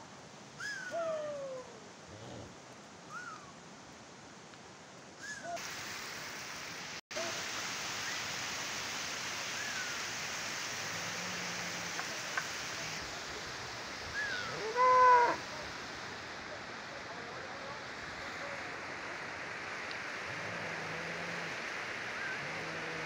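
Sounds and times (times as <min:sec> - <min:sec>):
steady rushing hiss: 0:01.6 - 0:23.0.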